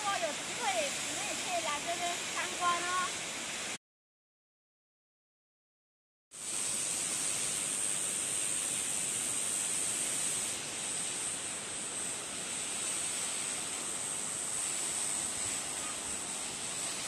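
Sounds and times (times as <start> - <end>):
waterfall rushing: 0.0 - 3.8, 6.4 - 17.0.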